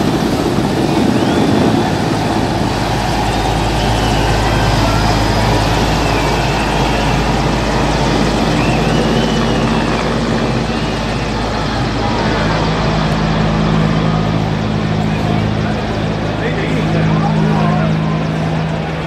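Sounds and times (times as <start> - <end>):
helicopter rotor and engines: 0.0 - 19.0.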